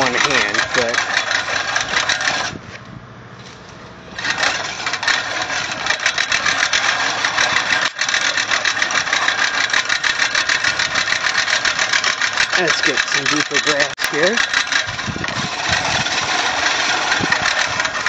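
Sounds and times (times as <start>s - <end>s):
reel mower blades clicking: 0.0s - 2.8s, 3.4s - 18.0s.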